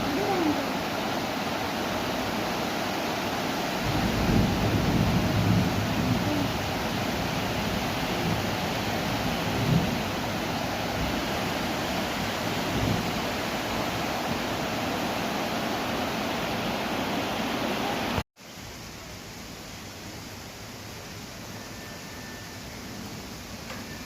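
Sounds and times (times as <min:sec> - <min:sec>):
heavy rain hissing: 0:00.0 - 0:24.0.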